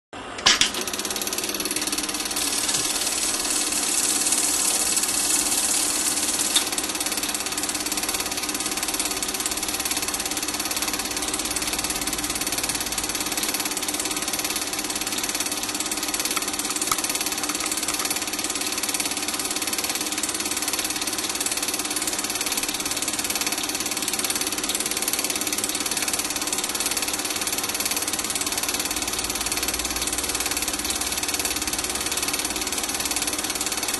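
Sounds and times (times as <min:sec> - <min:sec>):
film projector whirring: 0:00.2 - 0:33.9.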